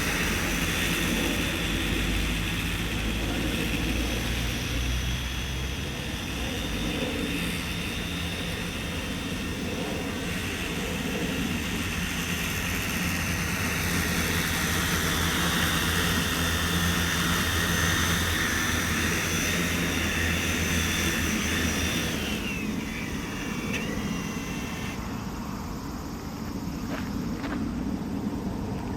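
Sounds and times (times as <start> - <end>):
drone rotors whining: 0.0 - 28.9.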